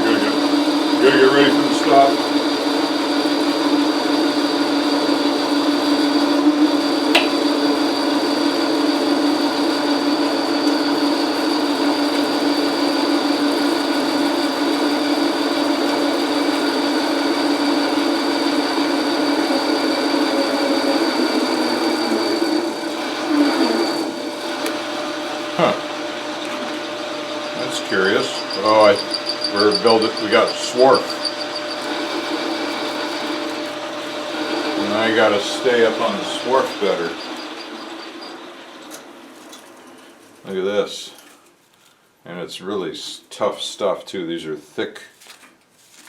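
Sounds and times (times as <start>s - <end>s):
metal lathe whining while cutting: 0.0s - 40.0s.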